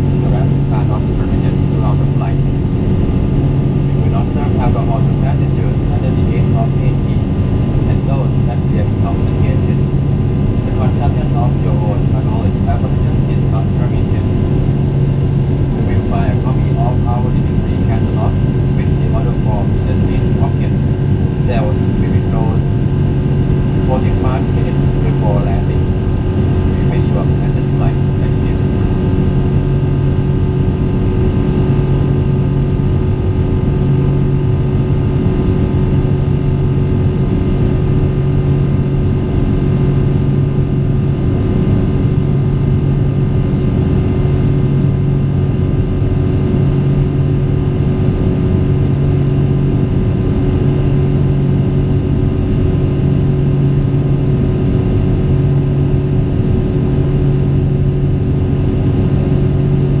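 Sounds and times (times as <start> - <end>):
jet engine drone in cabin: 0.0 - 60.0
low throbbing hum: 0.0 - 60.0.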